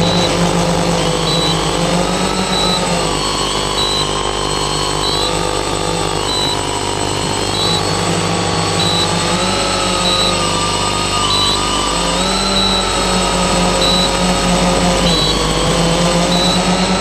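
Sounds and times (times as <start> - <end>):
drone motors whining: 0.0 - 17.0
short high beep: 0.0 - 17.0.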